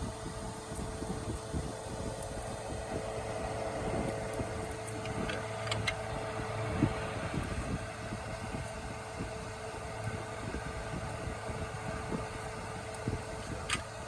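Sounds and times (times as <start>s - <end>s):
mechanical hum with low rumble: 0.0s - 14.0s.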